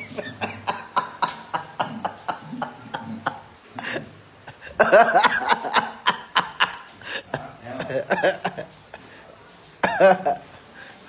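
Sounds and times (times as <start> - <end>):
stifled laughter snickers: 0.0 - 9.2, 9.8 - 10.4.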